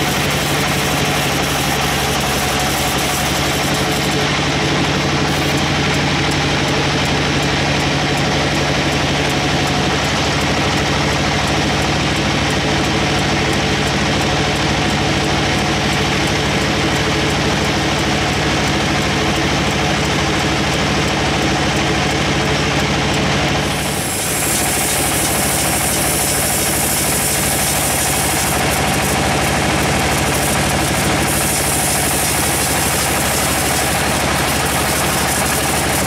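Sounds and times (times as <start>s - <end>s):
band saw running: 0.0s - 36.0s
faint regular ticking: 0.0s - 36.0s.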